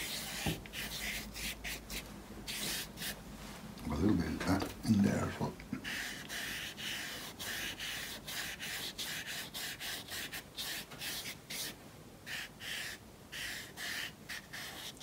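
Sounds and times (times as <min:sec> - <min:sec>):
brush scrubbing on rough paper: 0:00.0 - 0:03.2, 0:05.8 - 0:15.0.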